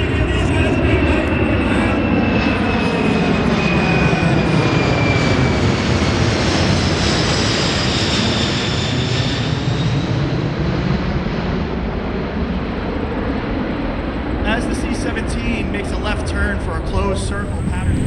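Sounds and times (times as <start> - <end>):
jet engines flyby: 0.0 - 18.0.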